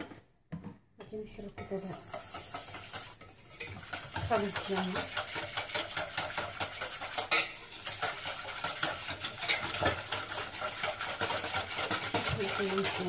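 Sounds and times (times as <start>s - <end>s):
whisk clinking in metal saucepan: 1.4s - 13.0s.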